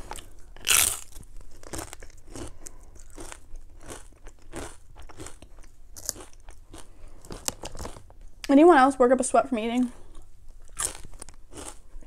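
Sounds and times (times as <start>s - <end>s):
chewing potato chips crunching: 0.0s - 8.4s, 10.0s - 12.0s.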